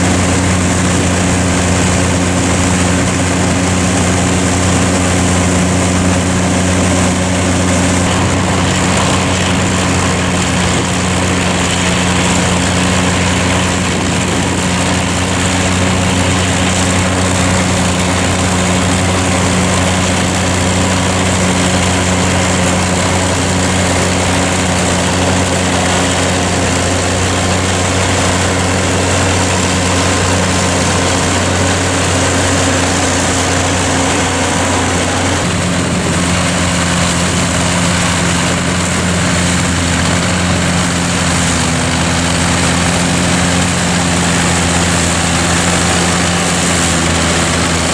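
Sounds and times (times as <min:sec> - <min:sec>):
machinery rushing noise: 0:00.0 - 0:47.9
tractor diesel engine hum: 0:00.0 - 0:47.9.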